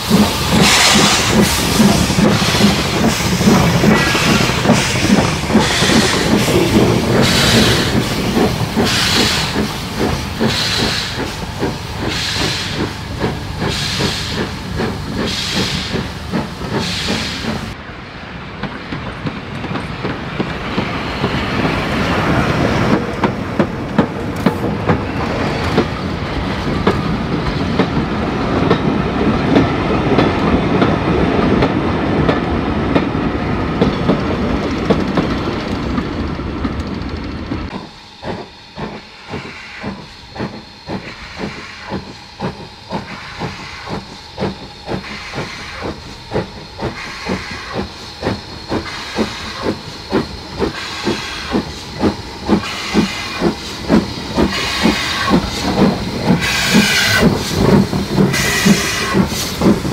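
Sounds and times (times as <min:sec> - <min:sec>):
train wheels clickety-clack: 0:00.0 - 0:17.8, 0:18.5 - 0:59.9
steam locomotive hiss and exhaust: 0:00.0 - 0:30.8, 0:37.6 - 0:59.9.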